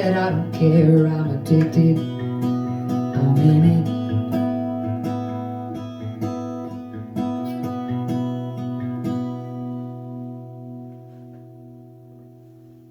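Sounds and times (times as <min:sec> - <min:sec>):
acoustic guitar strumming chords: 0:00.0 - 0:12.9.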